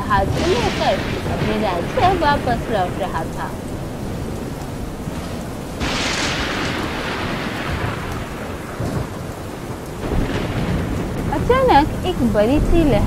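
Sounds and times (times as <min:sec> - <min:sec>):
heavy rain: 0:00.0 - 0:13.0
loud crash of thunder: 0:00.0 - 0:13.0.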